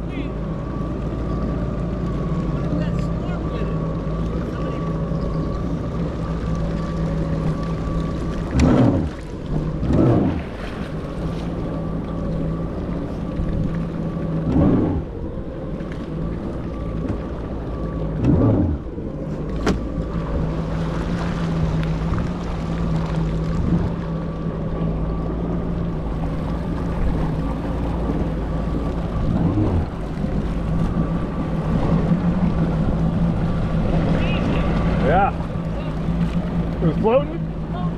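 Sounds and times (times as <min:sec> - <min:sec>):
jet ski engine idling and revving: 0:00.0 - 0:37.9.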